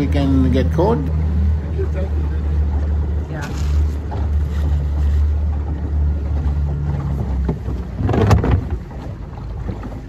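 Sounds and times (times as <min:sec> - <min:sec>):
boat motor humming: 0:00.0 - 0:10.0
rush of water or wind: 0:00.0 - 0:10.0.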